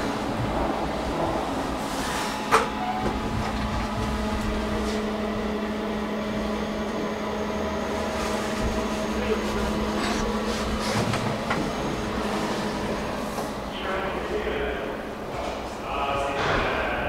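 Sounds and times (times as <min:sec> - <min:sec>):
elevator drive humming: 0:00.0 - 0:17.0.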